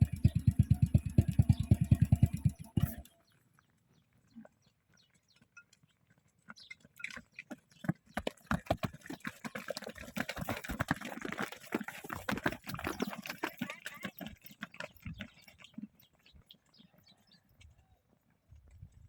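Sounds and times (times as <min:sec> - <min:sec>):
livestock clattering and knocking: 0:00.0 - 0:19.0.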